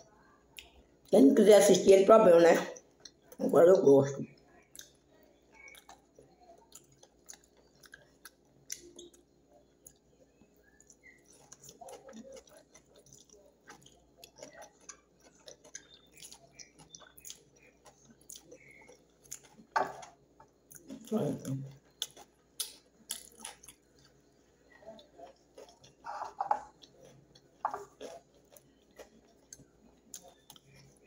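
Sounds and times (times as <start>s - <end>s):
person chewing food: 2.8s - 3.4s, 4.3s - 31.0s.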